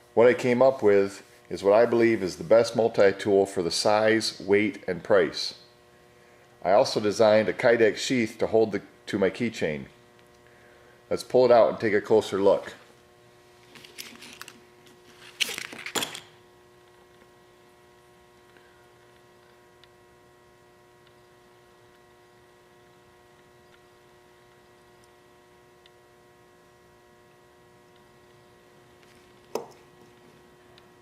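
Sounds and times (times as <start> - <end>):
faint electrical hum: 0.0 - 31.0.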